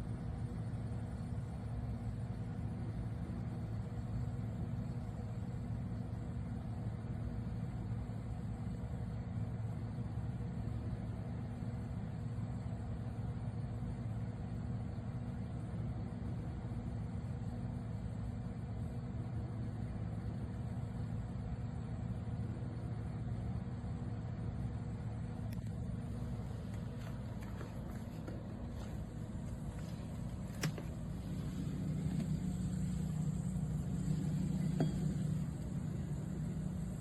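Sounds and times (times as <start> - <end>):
compressor fridge humming: 0.0 - 37.0.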